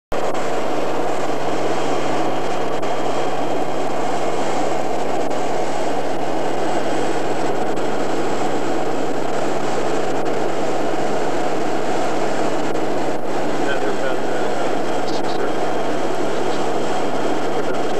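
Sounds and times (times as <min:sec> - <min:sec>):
aircraft cabin noise: 0:00.1 - 0:17.9
constant low hum: 0:00.1 - 0:17.9.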